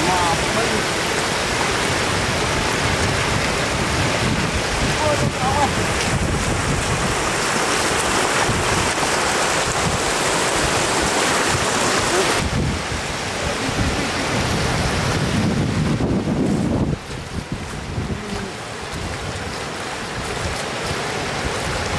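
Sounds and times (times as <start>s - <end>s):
floodwater rushing: 0.0s - 21.9s
wind buffeting microphone: 0.0s - 21.9s.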